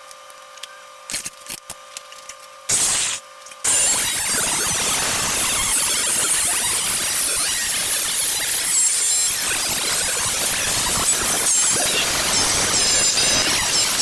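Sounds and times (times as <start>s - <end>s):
power tool cutting sheet metal: 2.7s - 14.0s.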